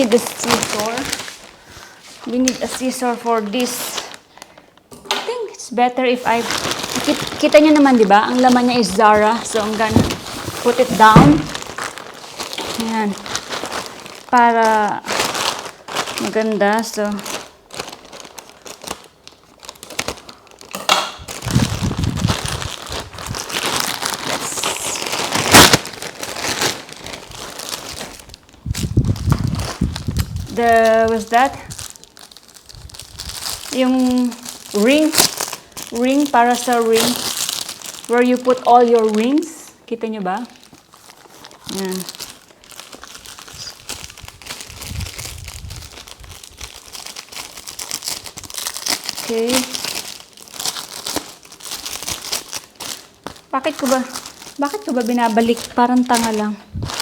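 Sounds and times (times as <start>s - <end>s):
loud packaging crackle: 0.0s - 5.0s, 6.1s - 57.0s
packaging crinkling and rustling: 0.0s - 5.4s, 6.0s - 57.0s.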